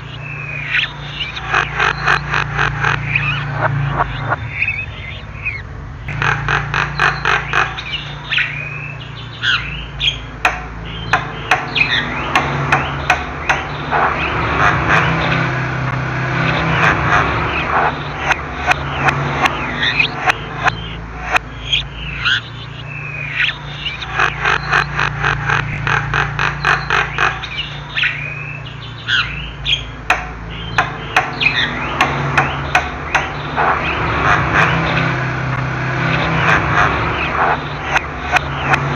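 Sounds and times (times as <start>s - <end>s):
bird calling: 0.0s - 38.9s
steady low hum: 0.0s - 38.9s.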